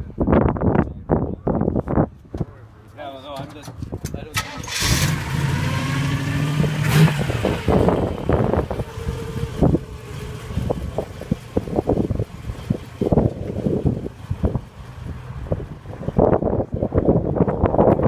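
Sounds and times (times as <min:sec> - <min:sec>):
car engine humming: 0:02.2 - 0:18.0.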